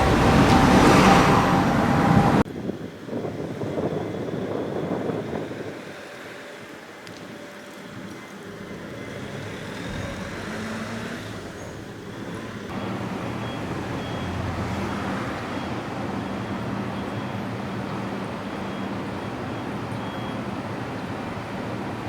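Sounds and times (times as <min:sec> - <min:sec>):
street traffic: 0:00.0 - 0:22.0
tram hum and rolling noise: 0:00.0 - 0:22.0.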